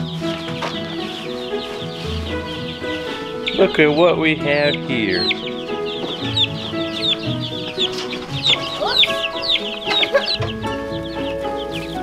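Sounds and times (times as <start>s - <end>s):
background music with held notes: 0.0s - 12.0s
ducklings peeping: 0.0s - 12.0s.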